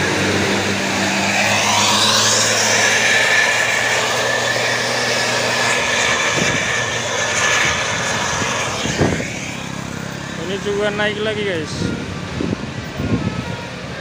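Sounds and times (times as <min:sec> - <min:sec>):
bus engine running hard: 0:00.0 - 0:14.0
high whine: 0:00.0 - 0:14.0.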